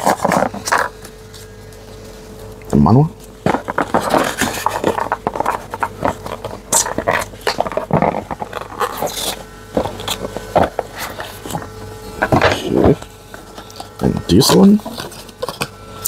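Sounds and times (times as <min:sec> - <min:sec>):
packaging rustling and crinkling: 0:00.0 - 0:02.6, 0:03.2 - 0:16.0.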